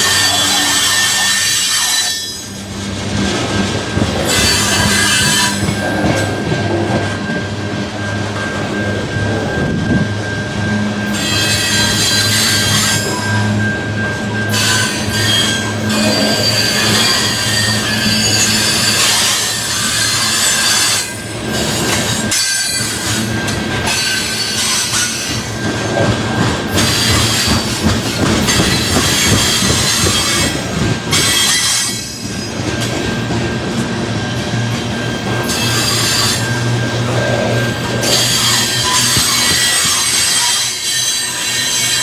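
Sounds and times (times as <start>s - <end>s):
train rolling past: 0.0s - 42.0s
wheels squealing against rails: 0.0s - 42.0s.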